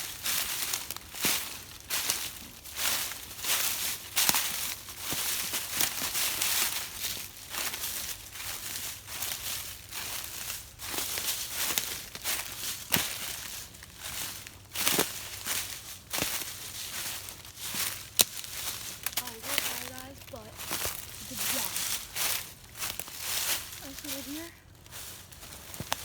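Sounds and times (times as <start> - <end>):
footsteps in dry leaves: 0.0 - 26.0.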